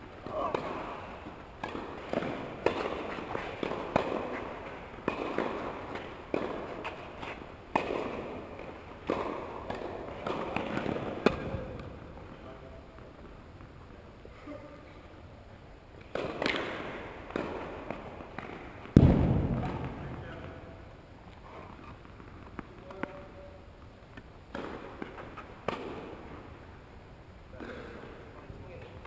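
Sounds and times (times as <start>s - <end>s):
tennis balls hit and bouncing: 0.0s - 14.2s, 16.0s - 23.3s, 24.1s - 26.7s.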